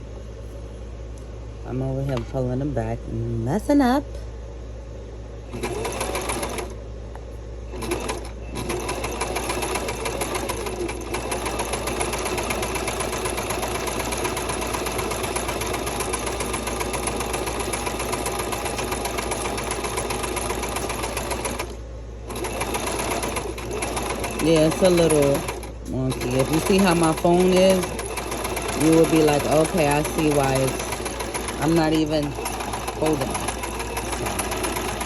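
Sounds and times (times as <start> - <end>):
sewing machine stitching: 5.5 - 6.8, 7.7 - 35.0.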